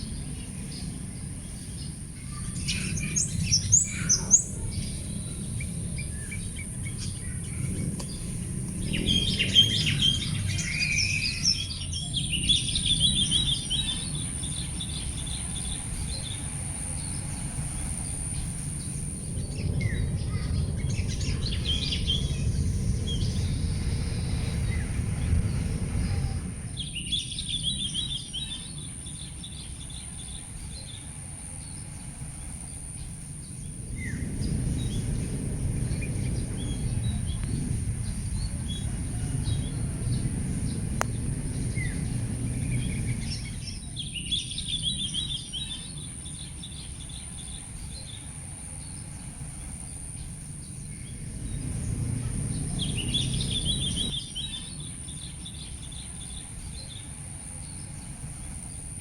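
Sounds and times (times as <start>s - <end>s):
birds chirping: 0.0s - 59.0s
low rumble: 0.0s - 59.0s.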